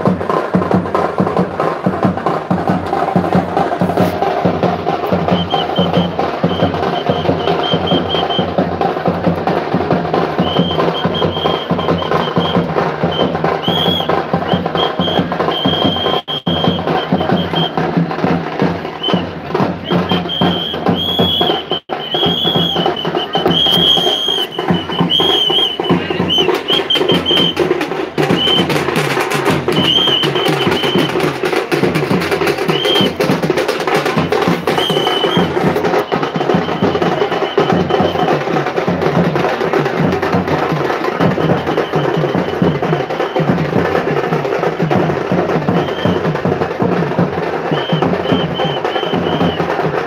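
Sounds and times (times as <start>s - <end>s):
fast drum rhythm: 0.0s - 50.0s.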